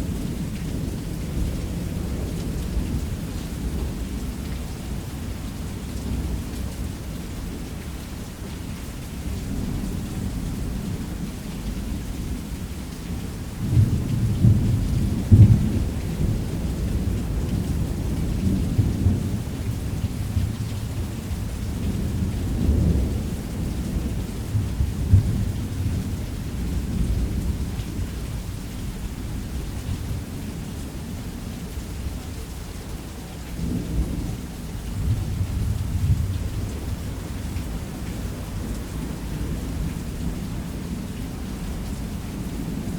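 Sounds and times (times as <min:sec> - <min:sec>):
rain on a roof: 0:00.0 - 0:42.9.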